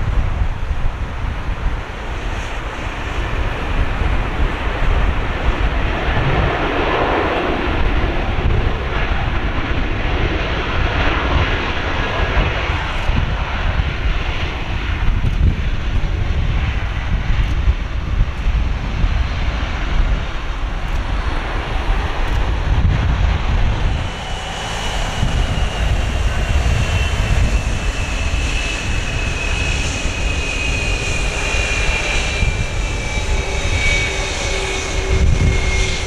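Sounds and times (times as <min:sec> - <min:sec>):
jet engines roaring: 0:00.0 - 0:36.0
wind rumble on microphone: 0:00.0 - 0:36.0.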